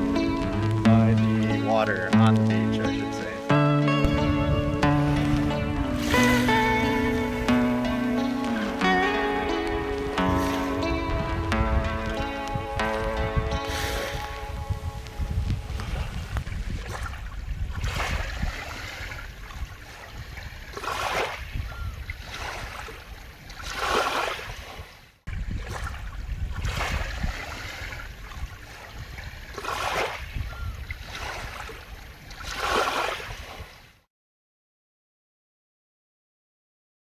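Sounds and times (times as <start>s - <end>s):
wind rumble on microphone: 0.0s - 1.7s, 3.9s - 23.7s, 24.4s - 33.8s
small waves washing on beach: 0.0s - 34.1s.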